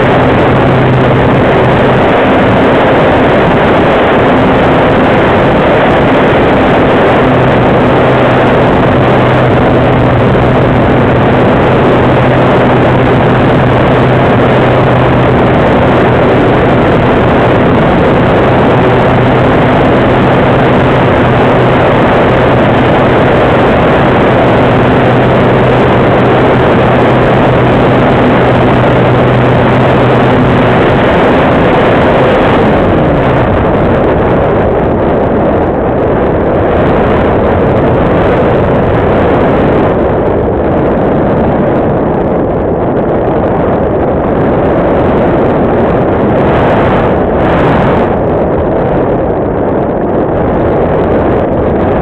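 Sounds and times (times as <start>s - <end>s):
airflow rush on microphone: 0.0s - 52.0s
electric motor and propeller humming: 0.0s - 52.0s.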